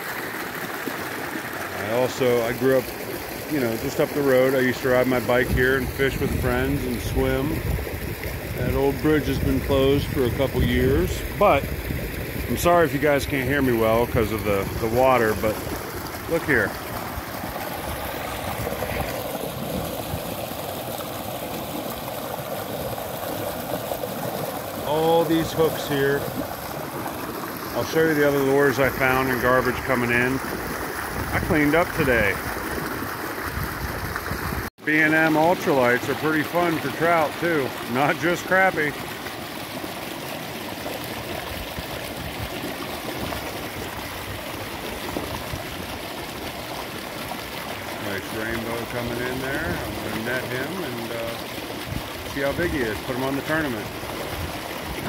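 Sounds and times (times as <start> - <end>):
creek water rushing over ledge: 0.0 - 55.0.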